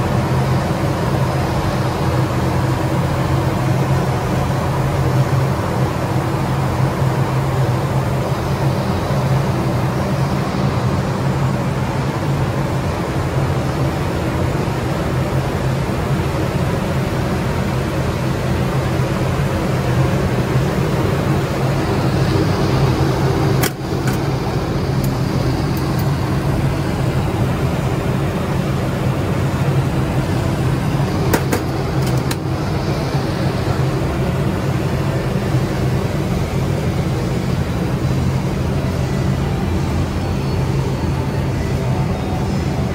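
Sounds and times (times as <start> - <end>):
fans and pump humming: 0.0 - 42.9.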